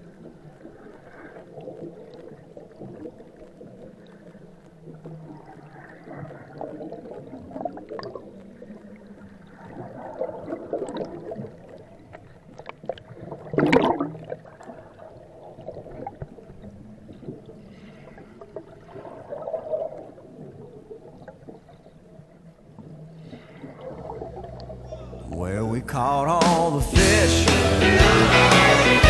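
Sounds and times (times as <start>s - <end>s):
muffled water churning and bubbling: 0.0s - 24.9s.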